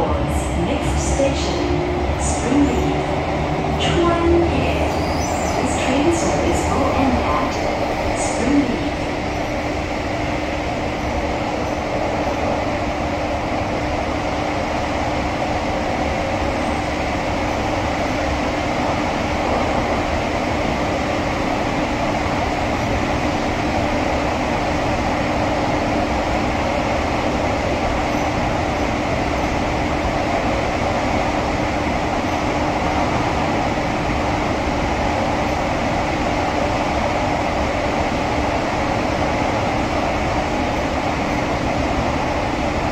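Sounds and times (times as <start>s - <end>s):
metro train running: 0.0s - 42.9s.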